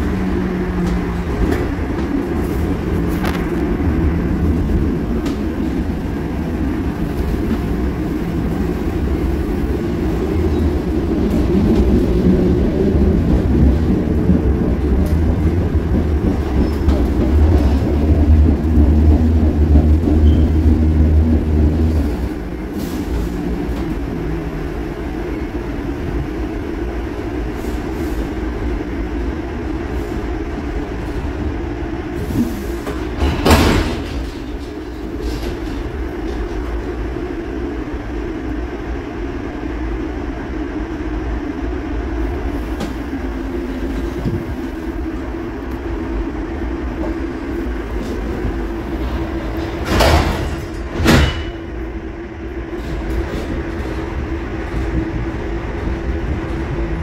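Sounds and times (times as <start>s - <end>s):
light-rail car rumble: 0.0s - 57.0s.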